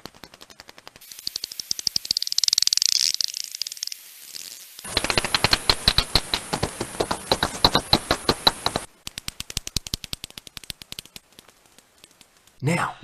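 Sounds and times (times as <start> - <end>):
bat echolocation clicks: 0.0 - 12.6.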